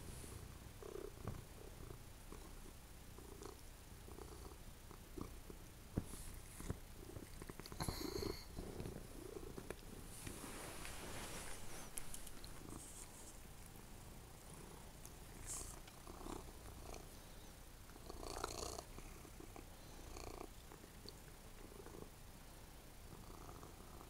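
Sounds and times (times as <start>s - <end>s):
cat purring: 0.0s - 22.3s, 23.0s - 24.0s.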